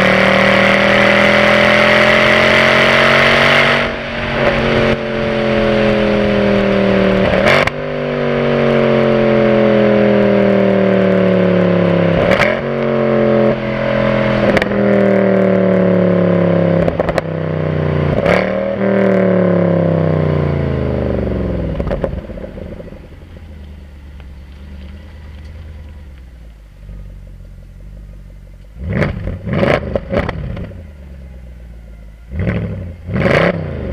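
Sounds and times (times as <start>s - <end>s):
car exhaust rumbling and crackling: 0.0s - 33.9s.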